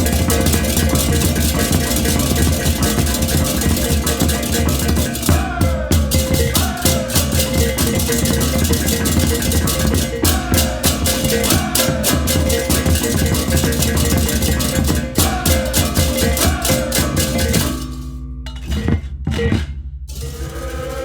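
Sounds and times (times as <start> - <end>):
cymbals crashing: 0.0 - 18.6, 20.1 - 21.0
gongs: 0.0 - 18.7
steady ringing metal tone: 0.0 - 18.9
drums: 0.0 - 21.0.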